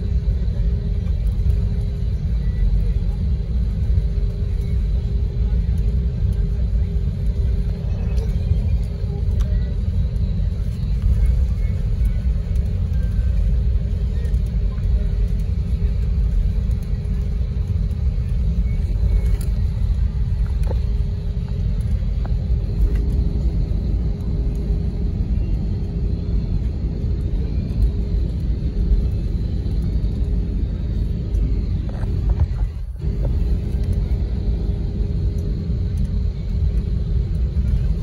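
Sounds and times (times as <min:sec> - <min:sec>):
airliner cabin rumble: 0:00.0 - 0:38.0.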